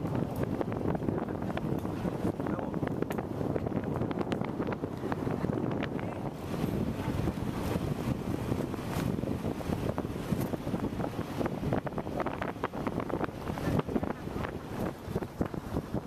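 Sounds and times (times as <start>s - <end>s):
vehicle rumbling on gravel road: 0.0s - 16.0s
wind buffeting microphone: 0.0s - 16.0s.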